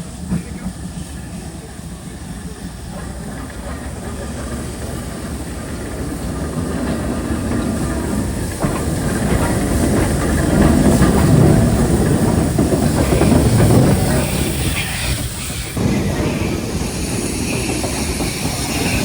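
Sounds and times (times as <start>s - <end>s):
steam hiss: 0.0s - 19.0s
steam train rumbling: 0.0s - 19.0s.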